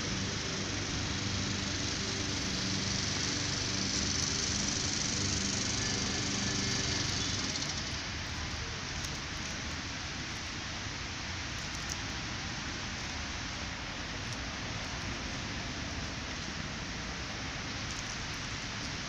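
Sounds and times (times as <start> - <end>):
outdoor hiss: 0.0 - 19.0.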